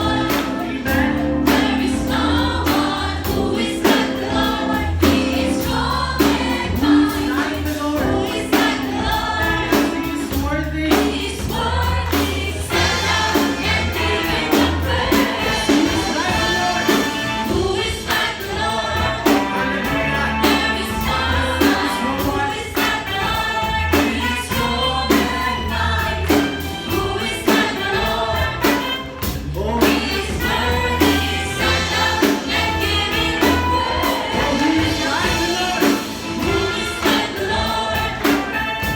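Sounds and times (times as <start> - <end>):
congregation singing: 0.0 - 38.9
live band with bass and drums: 0.0 - 38.9.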